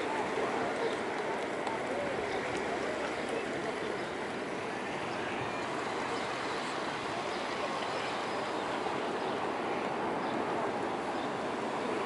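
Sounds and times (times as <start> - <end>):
surf washing on shore: 0.0 - 12.0.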